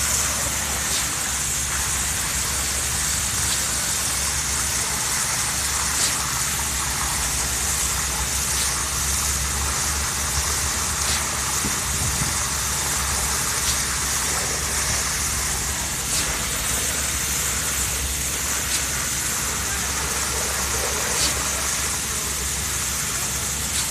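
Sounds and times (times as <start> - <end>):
concrete pump running: 0.0 - 23.9
steady hiss: 0.0 - 23.9.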